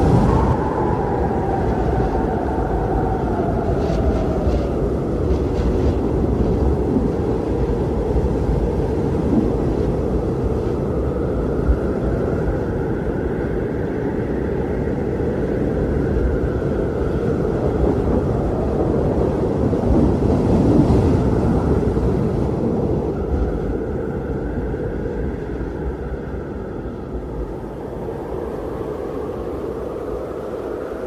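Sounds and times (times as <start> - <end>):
high wind whistle: 0.0 - 31.0
strong wind rushing: 0.0 - 31.0.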